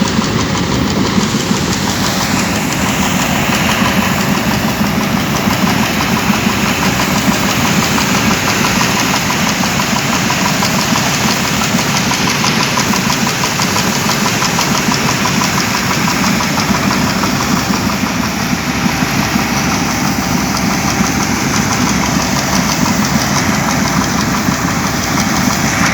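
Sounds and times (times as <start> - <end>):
combine harvester engine running: 0.0 - 25.9.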